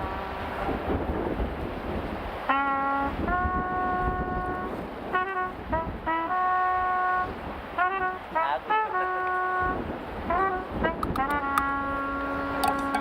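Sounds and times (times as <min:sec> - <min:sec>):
wind: 0:00.0 - 0:13.0
horn sounding a tune: 0:02.5 - 0:13.0.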